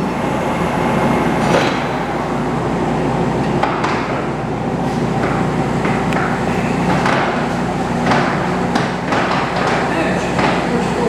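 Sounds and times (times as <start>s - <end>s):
machinery running: 0.0s - 9.7s.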